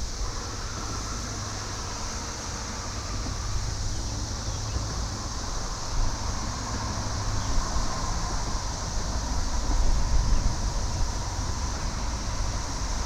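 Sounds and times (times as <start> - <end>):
cicada chorus drone: 0.0 - 13.0.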